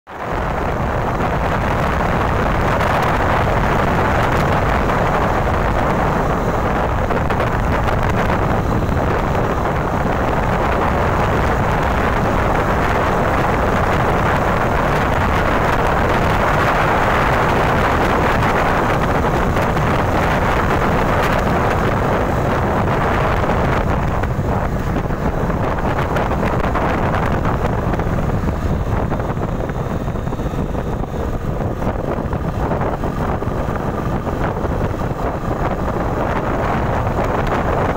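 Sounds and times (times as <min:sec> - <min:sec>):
motorcycle engine: 0:00.1 - 0:37.9
wind buffeting microphone: 0:00.1 - 0:37.9.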